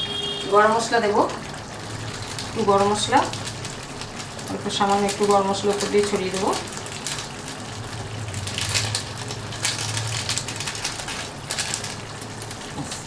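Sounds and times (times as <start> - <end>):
plastic packet crinkling: 2.0 - 13.0.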